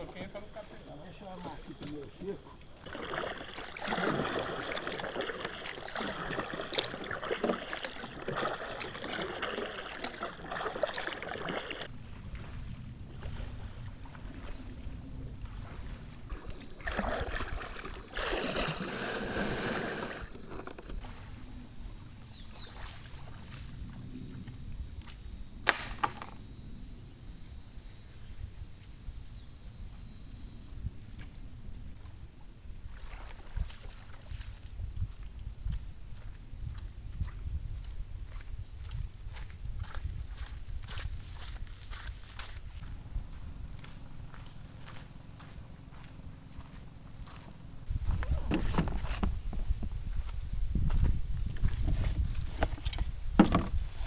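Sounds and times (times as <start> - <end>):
water splashing around kayak: 0.0 - 54.0.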